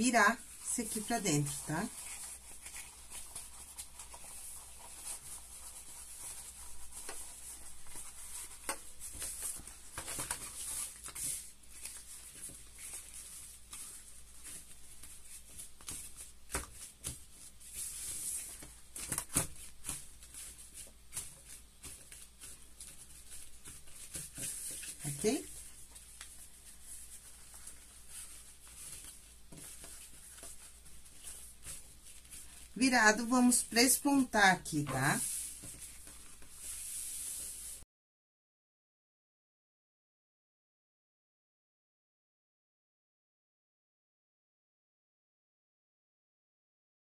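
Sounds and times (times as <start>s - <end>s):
nylon fabric rustling: 0.0s - 37.8s.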